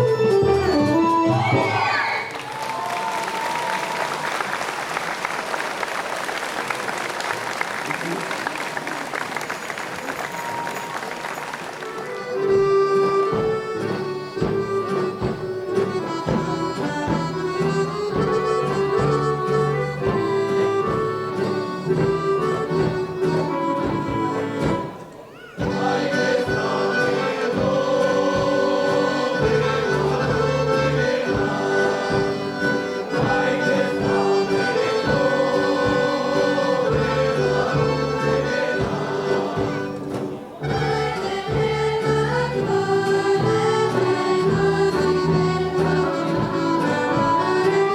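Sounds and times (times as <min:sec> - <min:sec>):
accordion folk music: 0:00.0 - 0:01.9, 0:08.0 - 0:47.9.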